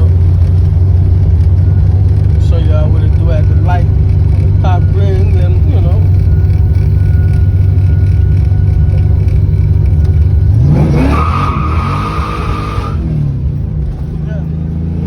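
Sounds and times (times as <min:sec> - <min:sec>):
car engine rumbling and revving: 0:00.0 - 0:15.0
high steady squeal: 0:00.1 - 0:13.3.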